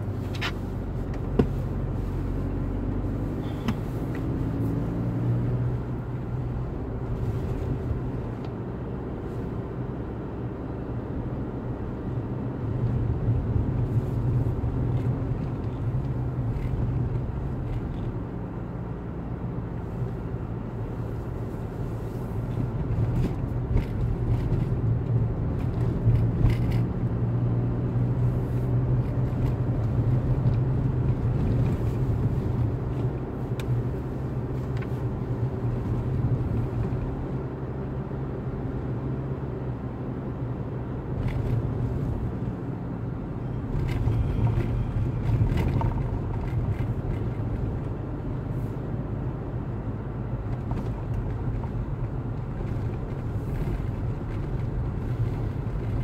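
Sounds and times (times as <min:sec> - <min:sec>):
car engine and road noise inside cabin: 0:00.0 - 0:56.0.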